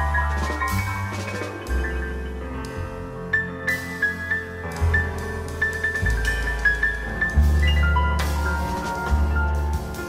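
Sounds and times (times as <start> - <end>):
piano notes: 0.0 - 10.0
plucked double bass: 0.0 - 10.0.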